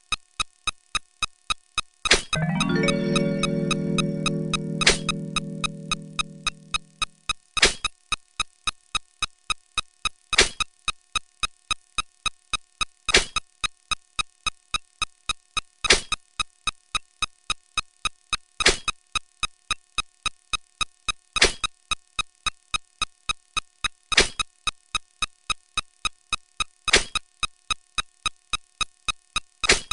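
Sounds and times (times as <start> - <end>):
rapid electronic ticks: 0.0 - 2.0, 4.2 - 29.6.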